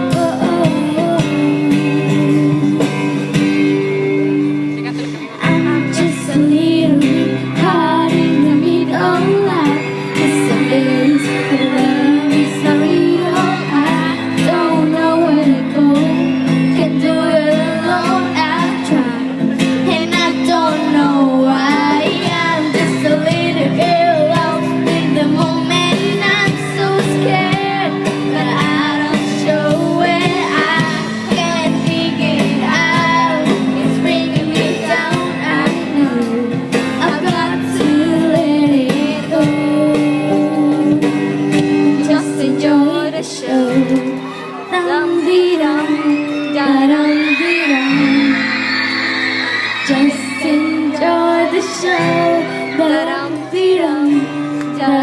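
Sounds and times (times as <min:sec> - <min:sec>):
woman singing: 0:00.0 - 0:04.0, 0:04.8 - 0:48.6, 0:49.8 - 0:55.0
guitar accompaniment: 0:00.0 - 0:55.0.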